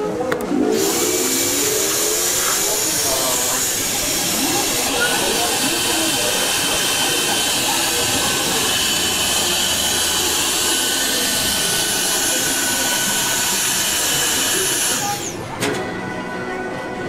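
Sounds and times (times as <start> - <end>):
vacuum pump hissing: 0.7 - 15.5.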